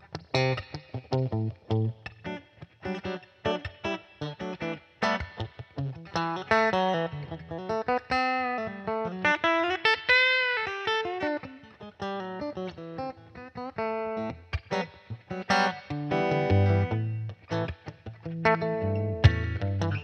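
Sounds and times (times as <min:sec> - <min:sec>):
electric guitar blues solo: 0:00.0 - 0:20.0.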